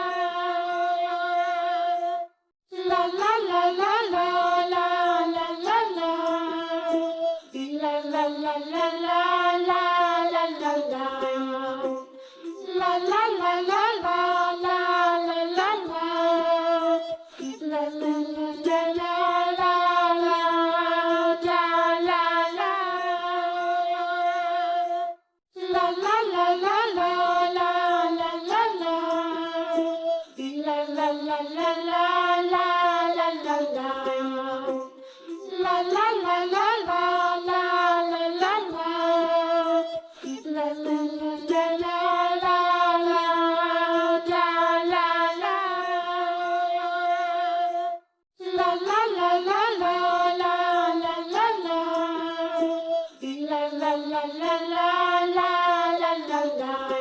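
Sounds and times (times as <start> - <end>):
child singing nursery song: 0.0 - 57.0.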